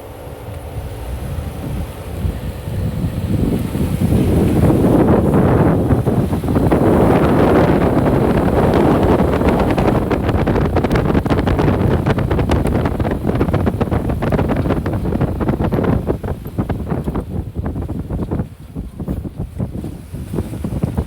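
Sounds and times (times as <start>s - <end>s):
off-road vehicle moving: 0.0s - 21.0s
wind buffeting microphone: 0.0s - 21.0s.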